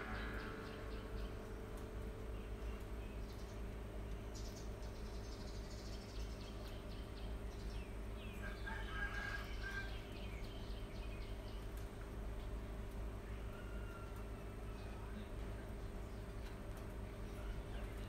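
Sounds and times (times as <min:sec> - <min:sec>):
rabbits nibbling and crunching: 0:00.0 - 0:18.0
steady low hum: 0:00.0 - 0:18.0.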